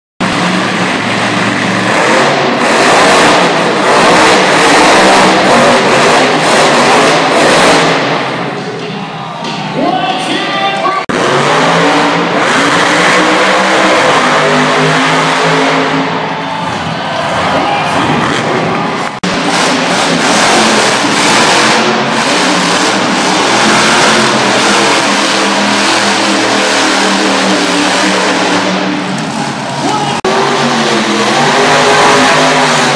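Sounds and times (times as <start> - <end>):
monster truck engine high revs: 0.2 - 8.6, 11.0 - 32.9.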